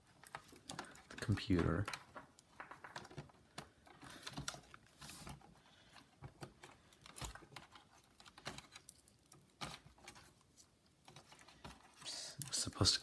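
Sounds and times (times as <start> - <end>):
clicks and rustles of handling: 0.0 - 13.0.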